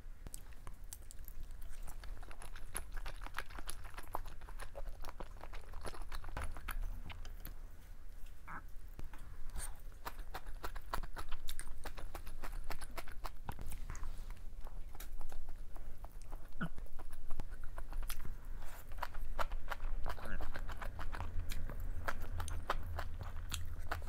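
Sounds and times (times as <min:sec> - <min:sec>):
wet chewing and mouth smacks: 0:00.2 - 0:24.0.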